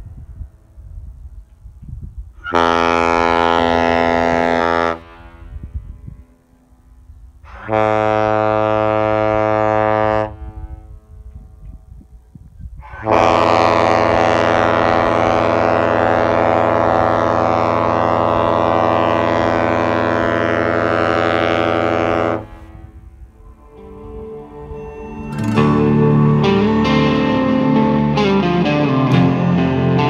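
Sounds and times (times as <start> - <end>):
deep ship horn blasts: 2.4 - 6.4, 7.4 - 11.2, 12.8 - 30.0.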